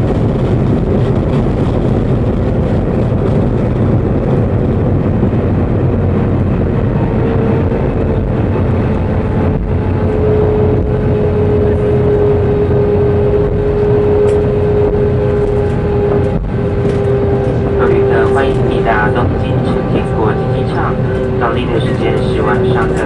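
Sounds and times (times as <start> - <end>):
airliner rumbling on runway: 0.0 - 23.0.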